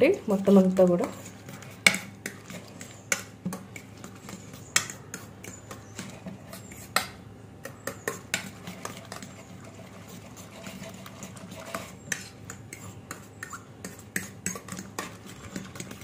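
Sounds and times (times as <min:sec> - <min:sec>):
fork whisking egg in steel bowl: 0:00.4 - 0:16.0.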